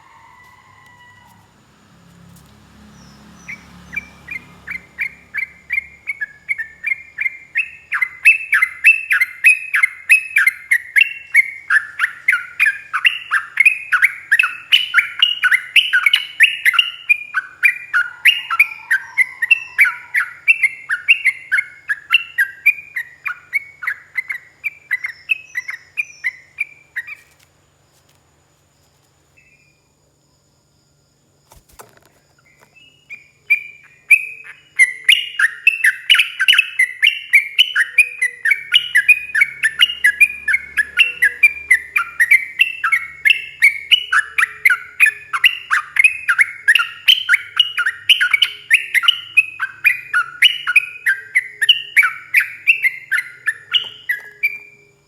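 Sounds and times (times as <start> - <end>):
bulbul singing repeated chirps: 3.0 - 27.2, 32.4 - 55.0.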